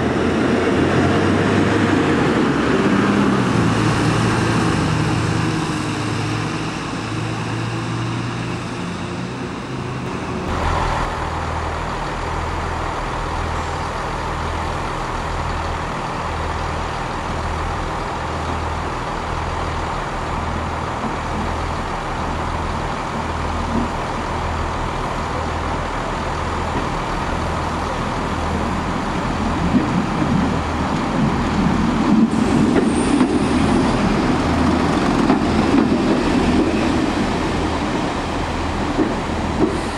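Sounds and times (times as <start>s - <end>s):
diesel bus pulling away: 0.0s - 39.9s
railcar diesel engine throbbing: 0.0s - 39.9s.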